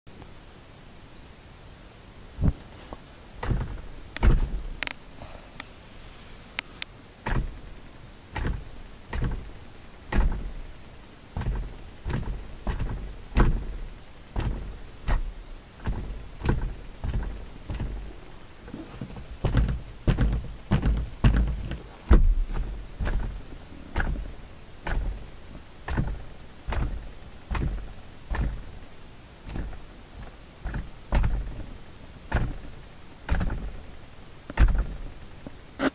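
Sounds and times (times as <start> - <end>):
sun visor rattling: 2.4 - 5.0, 6.7 - 35.9.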